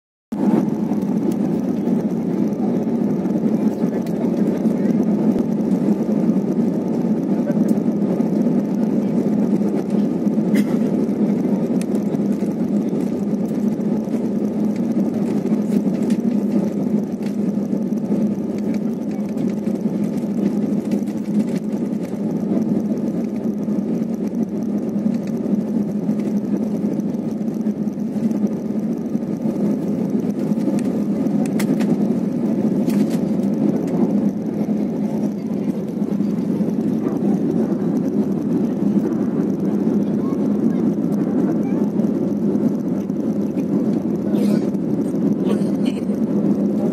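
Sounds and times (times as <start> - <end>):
jet engines at takeoff power: 0.3 - 46.9
runway rumble: 0.3 - 46.9
faint clicks and rattles: 9.2 - 46.9.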